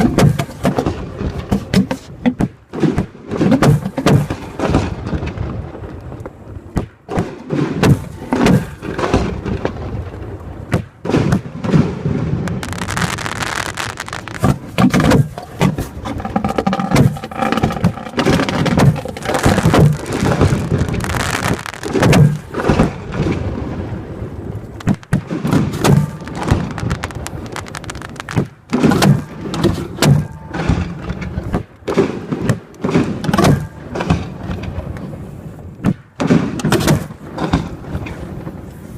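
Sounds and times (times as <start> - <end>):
fireworks mortar thuds and bangs: 0.0 - 38.9.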